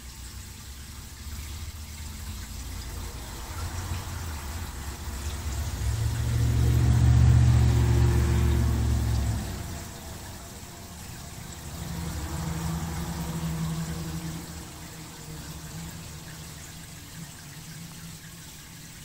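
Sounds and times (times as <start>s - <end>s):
pump humming: 0.0s - 19.0s
water hissing: 0.0s - 19.0s.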